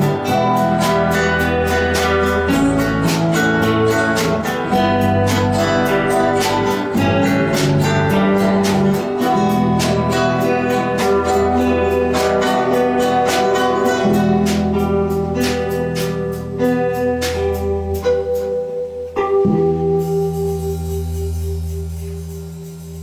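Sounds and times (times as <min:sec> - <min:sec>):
acoustic guitars playing: 0:00.0 - 0:23.0.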